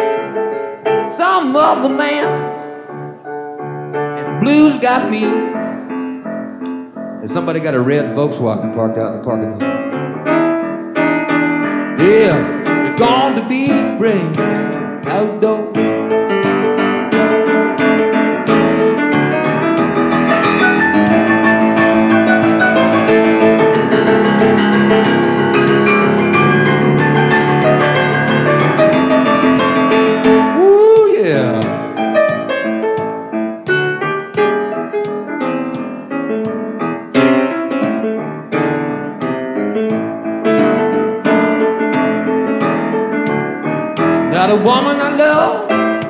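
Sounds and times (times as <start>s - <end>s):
blues piano playing: 0.0s - 46.0s.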